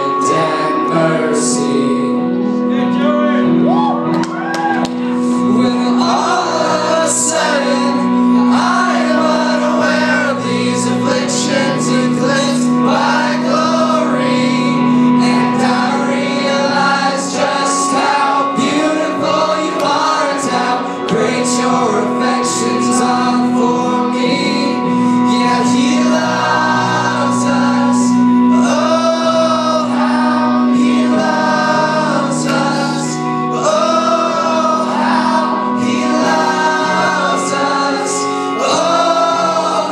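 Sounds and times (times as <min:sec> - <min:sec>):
person singing worship song: 0:00.0 - 0:03.5, 0:04.3 - 0:39.9
choir backing voices: 0:00.0 - 0:39.9
sustained chords: 0:00.0 - 0:39.9.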